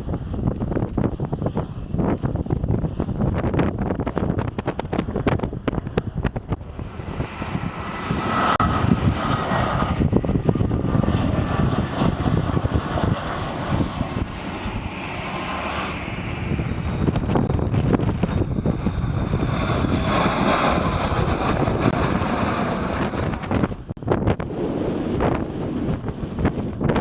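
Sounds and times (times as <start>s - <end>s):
jet airliner engines passing: 0.0s - 27.0s
wind buffeting microphone: 0.0s - 27.0s.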